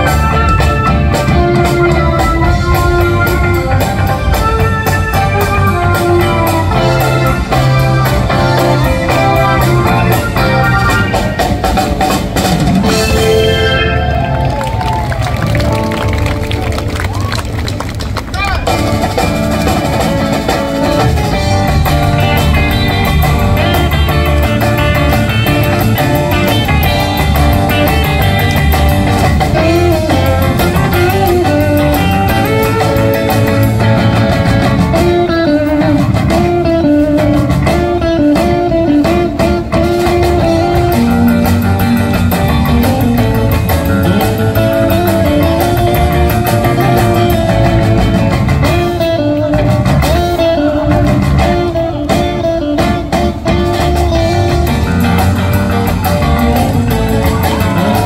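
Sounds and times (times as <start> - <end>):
drum kit: 0.0 - 58.0
electric bass: 0.0 - 58.0
electric guitars: 0.0 - 58.0
lead guitar melody: 0.0 - 58.0.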